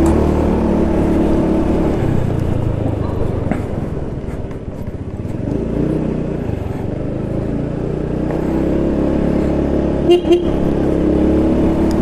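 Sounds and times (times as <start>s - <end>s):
motorcycle engine running: 0.0s - 12.0s
road rumble: 0.0s - 12.0s.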